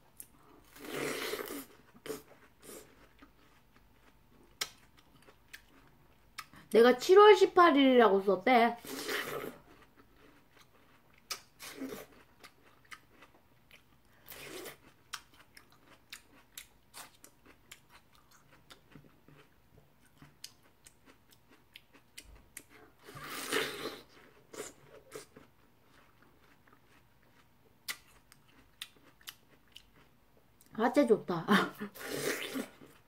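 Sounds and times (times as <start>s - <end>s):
chewing crisp watermelon: 0.1s - 6.7s, 8.8s - 30.7s.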